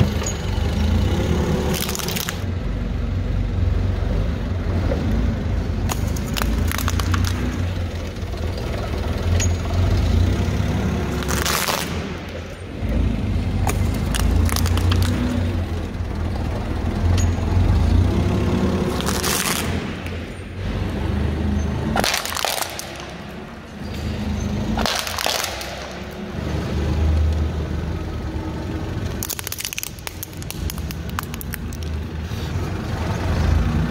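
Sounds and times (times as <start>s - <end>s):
forklift engine rumbling: 0.0s - 33.9s.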